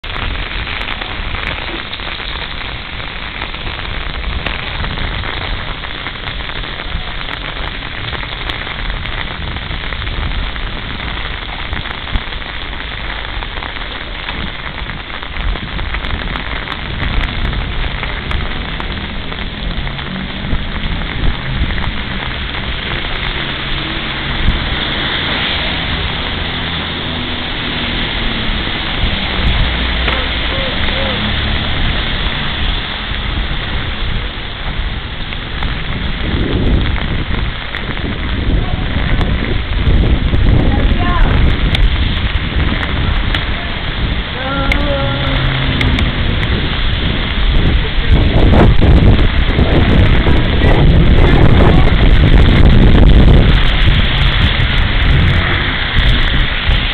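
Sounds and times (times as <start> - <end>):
low rumble: 0.0 - 56.9
rain on a street: 0.0 - 56.9
rain on an umbrella: 0.0 - 56.9.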